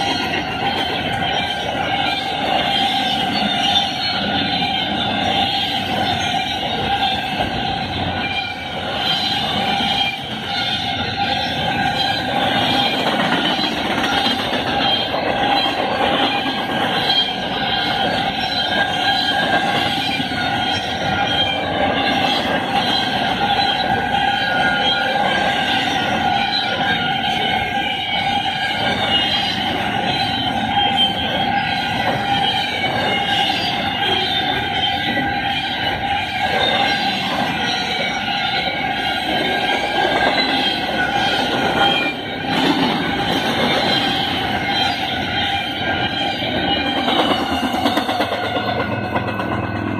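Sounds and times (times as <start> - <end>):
steady high tones: 0.0 - 49.9
steel wheels rumbling on rail: 0.0 - 49.9.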